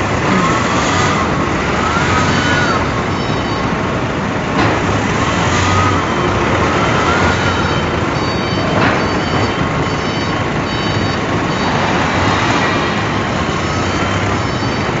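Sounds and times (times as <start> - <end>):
industrial machinery noise: 0.0 - 15.0.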